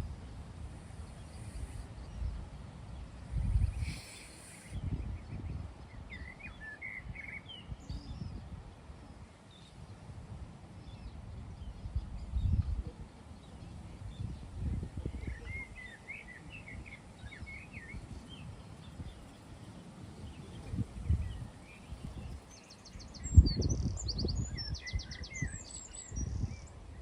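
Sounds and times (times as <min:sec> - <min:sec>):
small birds chirping: 0:00.0 - 0:27.0
wind buffeting microphone: 0:00.0 - 0:27.0.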